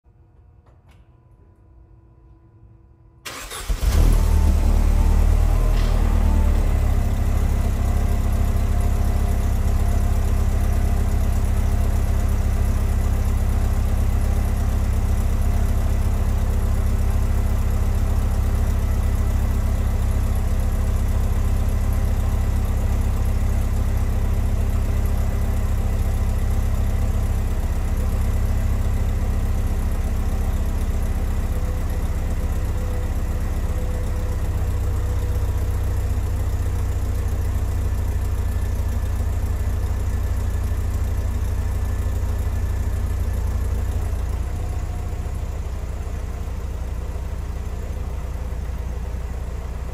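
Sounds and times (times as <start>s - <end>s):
car engine idling: 3.3s - 49.9s.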